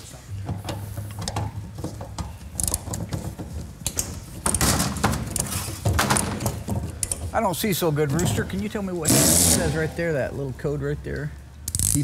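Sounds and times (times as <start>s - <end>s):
hand tools clanking on metal: 0.3s - 10.0s.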